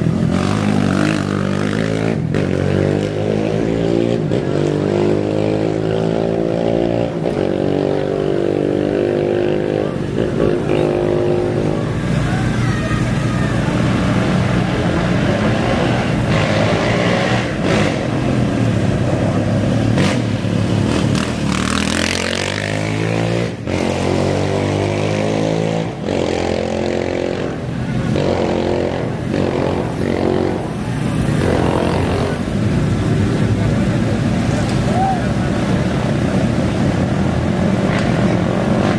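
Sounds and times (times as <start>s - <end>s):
engine accelerating away: 0.0s - 38.9s
racing engines revving: 0.0s - 38.9s.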